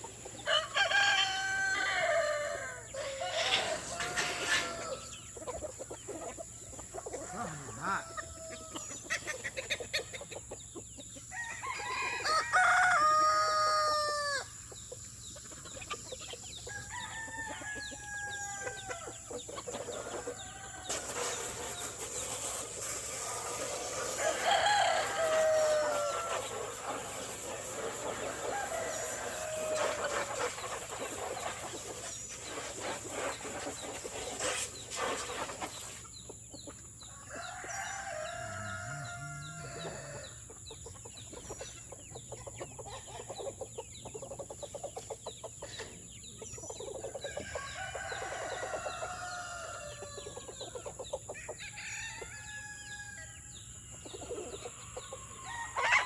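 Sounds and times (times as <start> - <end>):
roosters crowing: 0.0 - 10.3, 11.1 - 36.1, 37.0 - 41.8, 44.9 - 56.0
hens clucking: 0.0 - 52.4, 53.8 - 56.0.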